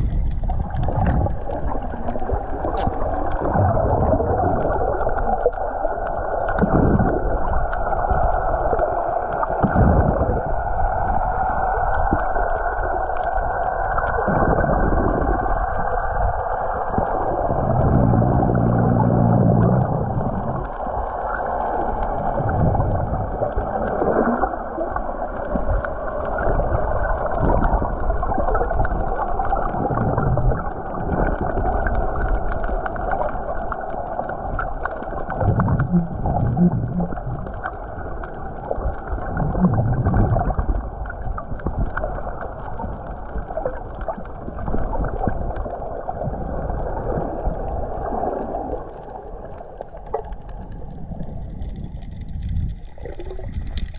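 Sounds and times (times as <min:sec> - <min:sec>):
low bubbling rumbles: 0:00.0 - 0:53.9
underwater rushing and gurgling: 0:00.0 - 0:53.9.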